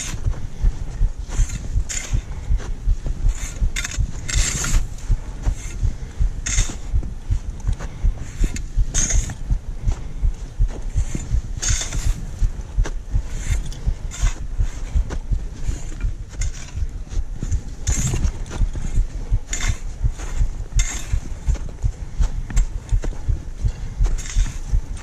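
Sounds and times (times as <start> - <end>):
footsteps crunching on snow: 0.0 - 25.0.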